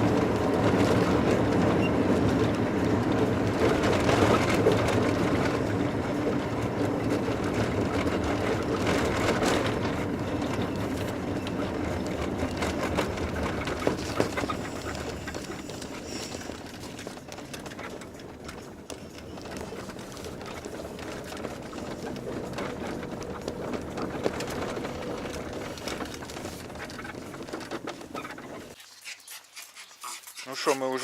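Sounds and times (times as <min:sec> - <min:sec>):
car road and engine rumble: 0:00.0 - 0:28.8
knocks and rattles from bumps: 0:00.0 - 0:28.8.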